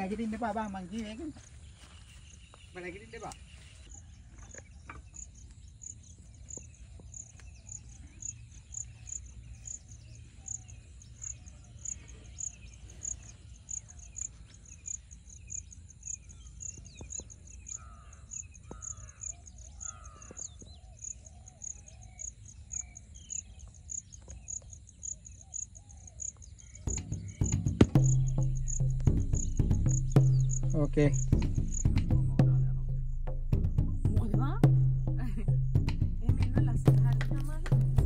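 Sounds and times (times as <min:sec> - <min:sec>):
birds calling: 0:00.0 - 0:38.0
insect chirping: 0:00.0 - 0:38.0.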